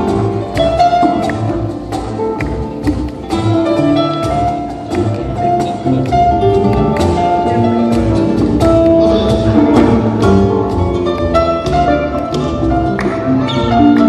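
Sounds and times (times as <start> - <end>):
conga percussion: 0.0 - 14.0
low bass line: 0.0 - 14.0
piano melody: 0.0 - 14.0.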